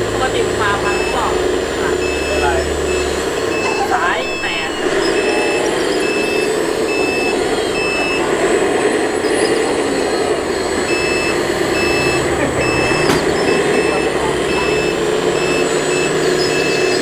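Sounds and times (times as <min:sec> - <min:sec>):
mechanical hum: 0:00.0 - 0:17.0
reversing beeper: 0:00.0 - 0:17.0.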